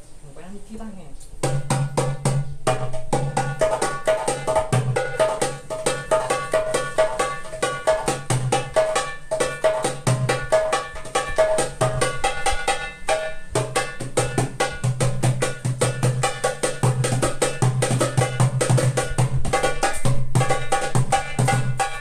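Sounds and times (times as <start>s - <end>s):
goblet drum fast rhythm: 1.4s - 22.0s.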